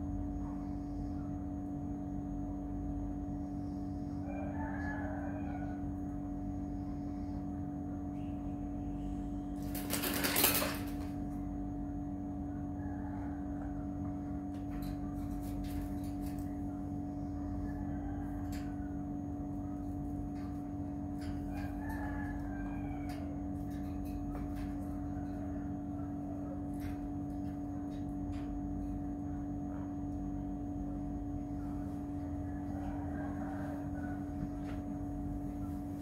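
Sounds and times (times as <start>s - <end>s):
low mechanical hum: 0.0s - 36.0s
distant rooster crowing: 2.0s - 36.0s.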